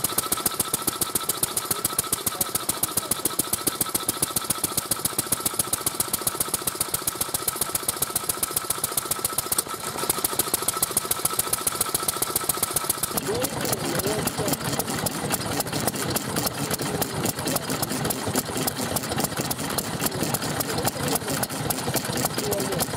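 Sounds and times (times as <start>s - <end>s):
stationary engine knocking: 0.0s - 22.9s.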